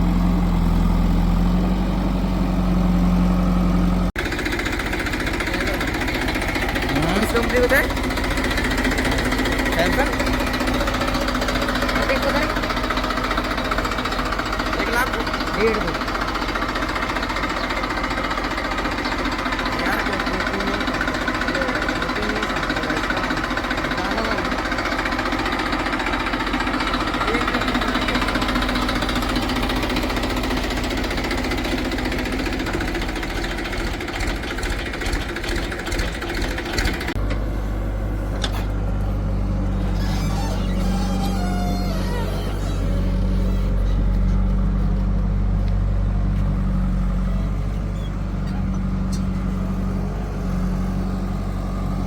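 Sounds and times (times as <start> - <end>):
diesel machinery rattling: 0.0 - 52.0.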